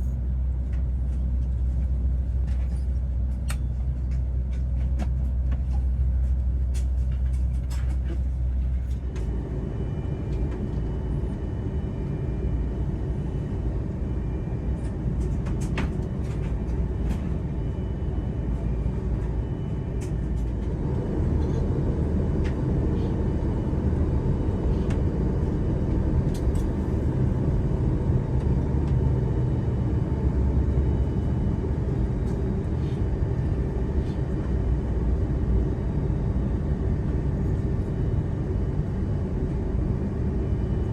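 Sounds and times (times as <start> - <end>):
vehicle rumble inside cabin: 0.0 - 40.9.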